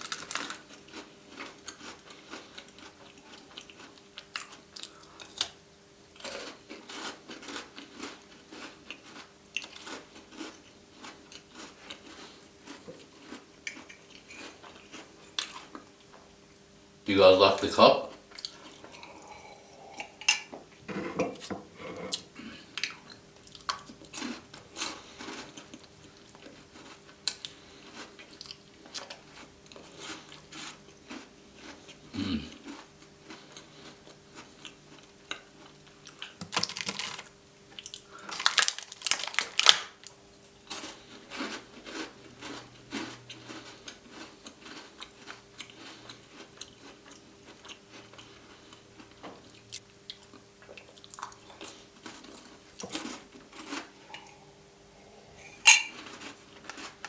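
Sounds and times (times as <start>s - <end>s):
chewing and crunching biscuits: 0.0s - 20.5s, 22.1s - 57.0s
faint steady hum: 0.0s - 57.0s.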